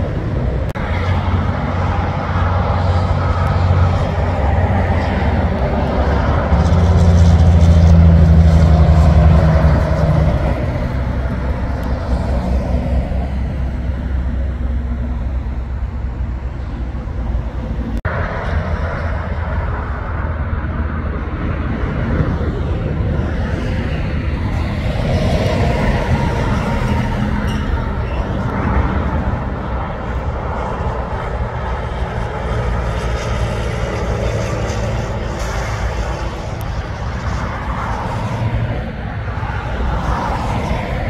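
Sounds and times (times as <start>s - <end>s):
traffic rumble: 0.0s - 41.0s
truck diesel engine passing: 0.0s - 41.0s.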